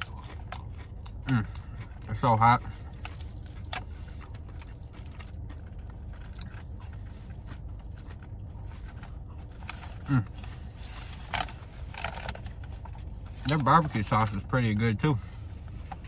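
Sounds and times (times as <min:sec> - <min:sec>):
person chewing food: 0:00.0 - 0:13.6.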